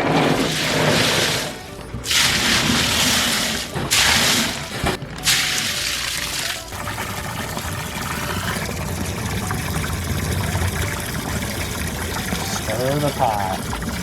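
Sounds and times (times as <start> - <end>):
water trickling and sloshing: 0.0 - 14.0.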